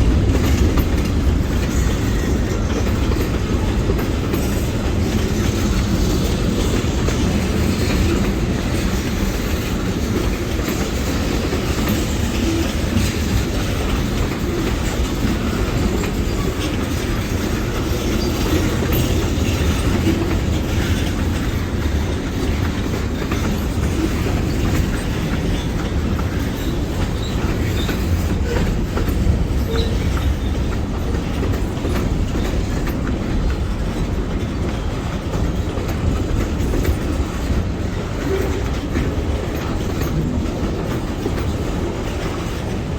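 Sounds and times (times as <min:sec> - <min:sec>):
freight train rumbling past: 0:00.0 - 0:42.9
train wheel clatter: 0:00.0 - 0:42.9.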